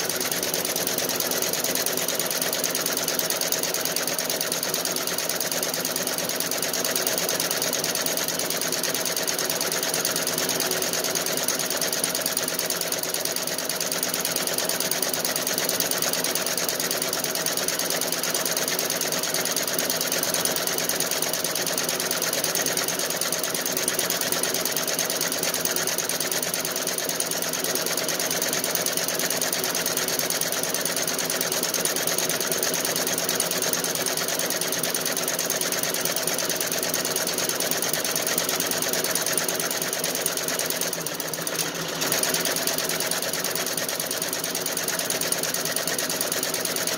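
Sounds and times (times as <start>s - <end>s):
embroidery machine stitching: 0.0s - 46.9s.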